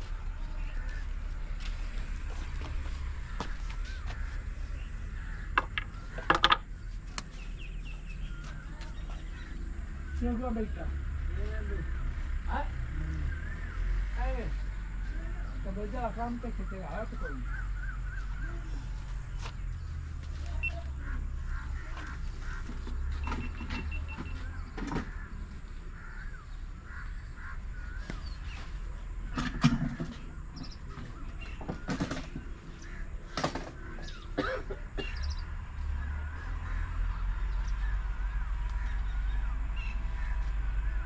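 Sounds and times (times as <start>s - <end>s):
birds chirping: 0.0s - 41.0s
diesel engine low drone: 0.0s - 41.0s.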